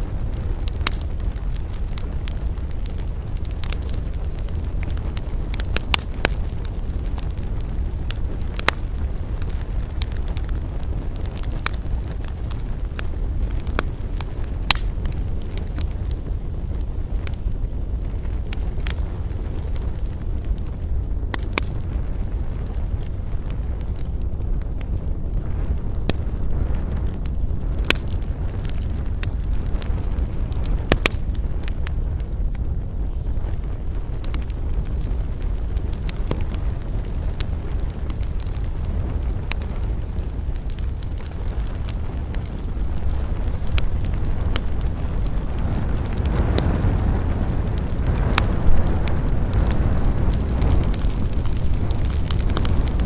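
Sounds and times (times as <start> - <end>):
campfire flames rumbling: 0.0 - 53.0
fire crackling and popping: 0.0 - 53.0.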